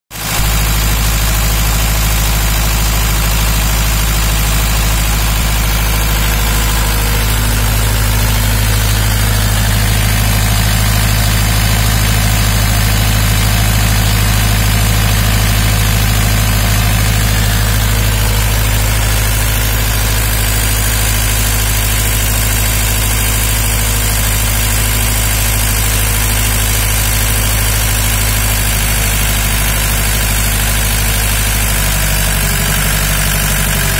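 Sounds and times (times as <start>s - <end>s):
diesel generator humming: 0.2s - 33.9s.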